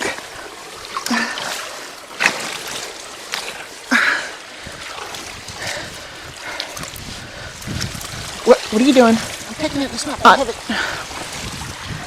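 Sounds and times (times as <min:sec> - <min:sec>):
sharp splashes: 0:00.0 - 0:12.0
stream rushing: 0:00.0 - 0:12.0
water splashing and sloshing: 0:00.0 - 0:12.0.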